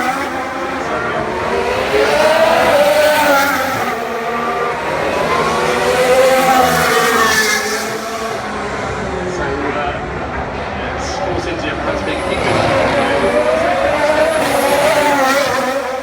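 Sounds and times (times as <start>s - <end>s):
racing car engines: 0.0s - 16.0s.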